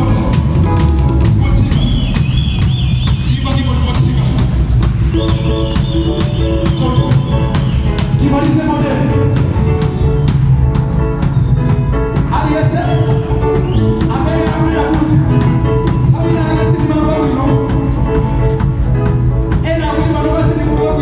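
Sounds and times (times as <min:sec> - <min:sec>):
church band playing gospel: 0:00.0 - 0:21.0
drums keeping steady beat: 0:00.0 - 0:21.0.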